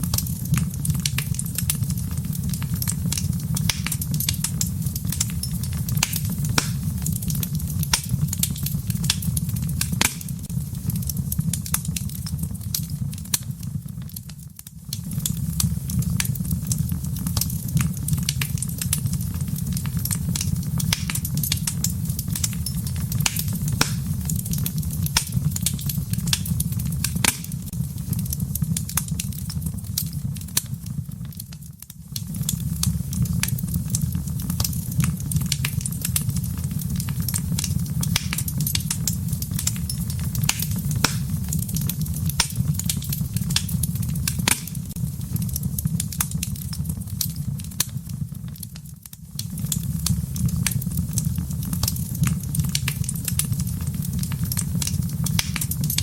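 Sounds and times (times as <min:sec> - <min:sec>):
burning wood crackling and popping: 0:00.0 - 0:56.0
low roar of flames: 0:00.0 - 0:56.0.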